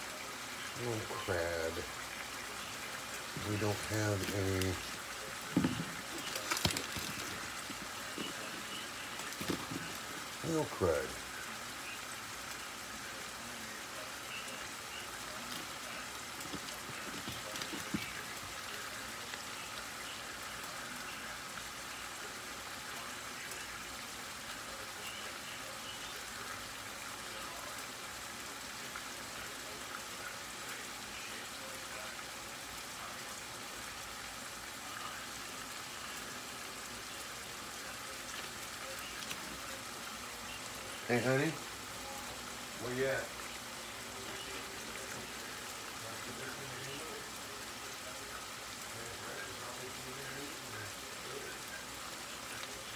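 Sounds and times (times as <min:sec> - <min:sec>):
pot simmering with hissing steam: 0:00.0 - 0:52.9.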